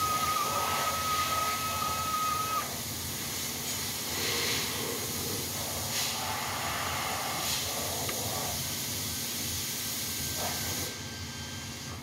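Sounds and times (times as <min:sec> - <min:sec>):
workshop background hiss: 0:00.0 - 0:12.0.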